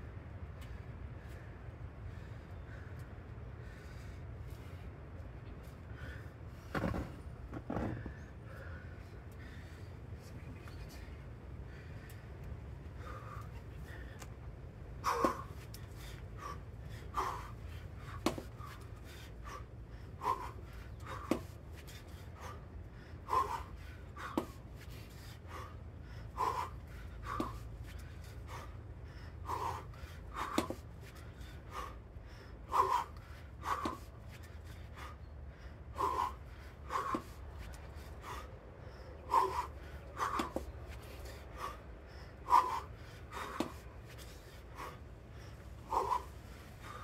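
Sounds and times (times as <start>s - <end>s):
steady low hum: 0.0s - 47.0s
person breathing hard: 0.6s - 6.6s, 7.9s - 10.2s, 11.0s - 47.0s.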